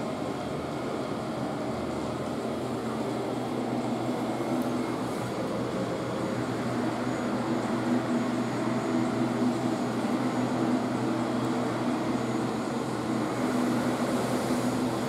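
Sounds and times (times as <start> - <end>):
ventilation system hum and rushing air: 0.0 - 15.0.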